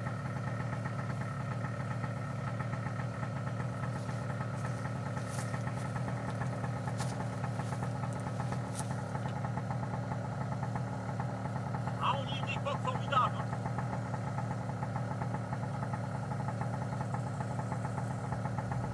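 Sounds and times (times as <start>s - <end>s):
small engine idling: 0.0s - 18.9s.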